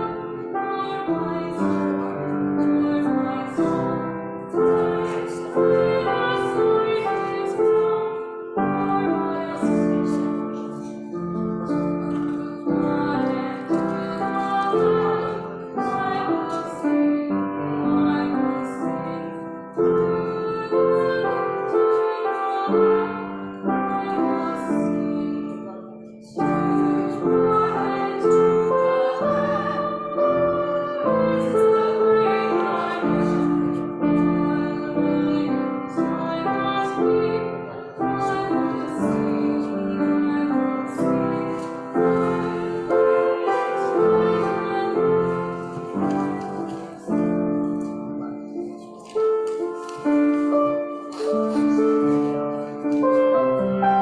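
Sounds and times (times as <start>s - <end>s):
slow piano piece: 0.0s - 54.0s.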